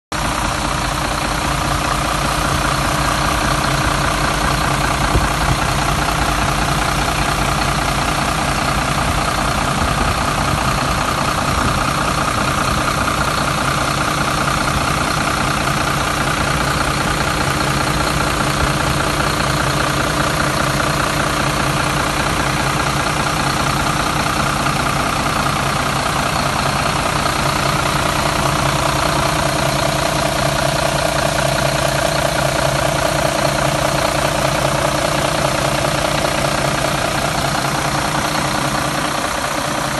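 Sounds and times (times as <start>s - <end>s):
diesel engine idling: 0.1s - 39.9s.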